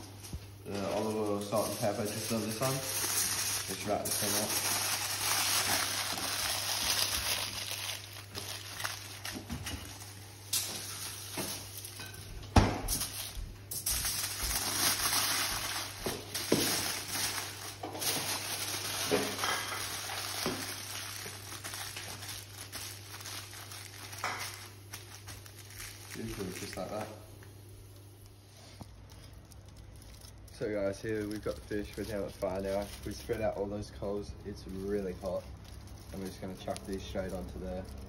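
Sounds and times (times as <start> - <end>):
aluminium foil crinkling: 0.0 - 38.0.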